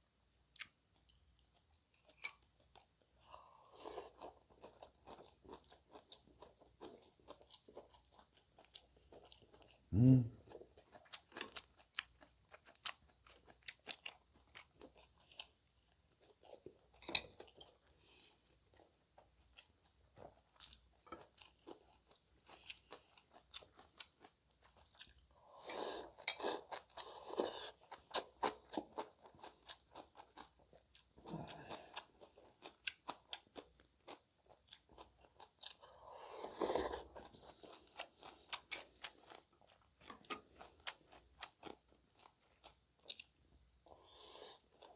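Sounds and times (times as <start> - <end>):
person chewing and crunching food: 0.5 - 44.9.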